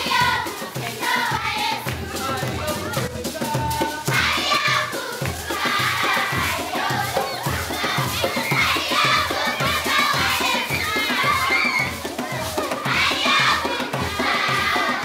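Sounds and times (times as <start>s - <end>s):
children singing and shouting: 0.0s - 15.0s.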